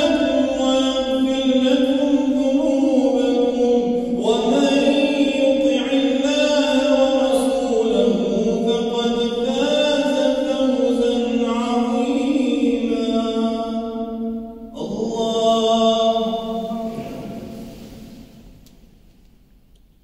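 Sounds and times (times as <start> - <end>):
man chanting prayer: 0.0 - 18.4.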